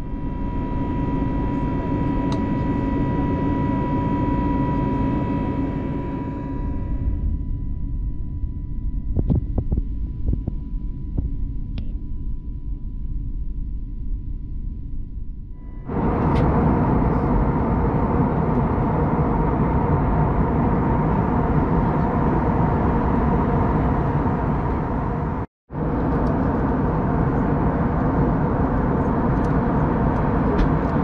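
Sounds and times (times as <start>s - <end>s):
jet engines and airflow in cabin: 0.0s - 31.0s.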